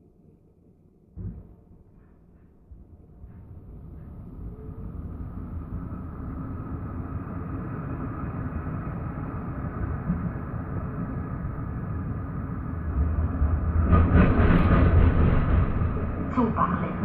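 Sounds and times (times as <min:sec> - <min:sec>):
tram rumbling on rails: 0:01.2 - 0:17.0.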